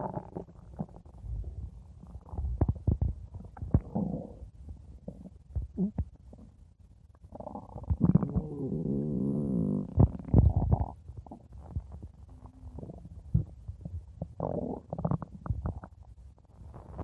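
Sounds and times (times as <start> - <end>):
stomach growling and gurgling: 0.0 - 6.6, 7.2 - 17.0.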